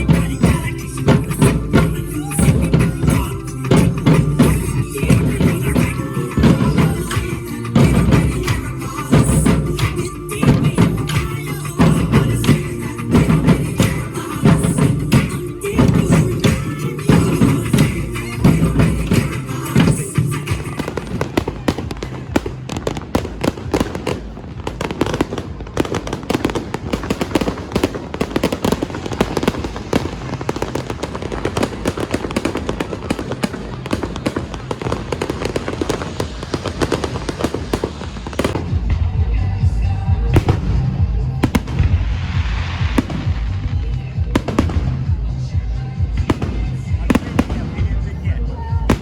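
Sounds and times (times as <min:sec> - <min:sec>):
festival music: 0:00.0 - 0:49.0
fireworks bursting and crackling: 0:00.0 - 0:49.0
heavy bass music: 0:00.0 - 0:49.0.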